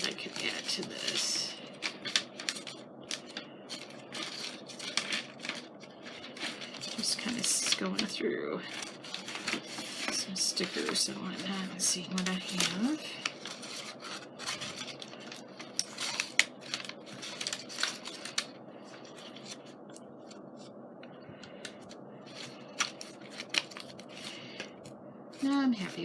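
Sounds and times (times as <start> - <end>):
paper and plastic rustling: 0.0 - 20.7, 21.3 - 26.0.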